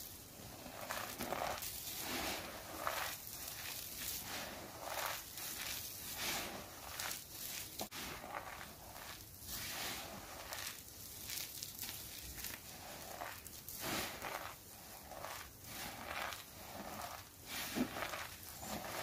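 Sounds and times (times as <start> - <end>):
crunchy rustles of soap chips: 0.3 - 19.0.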